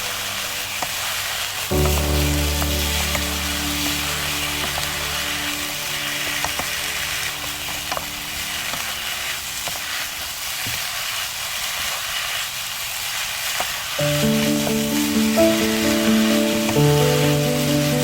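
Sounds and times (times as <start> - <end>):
potatoes sizzling in oil: 0.0 - 18.0.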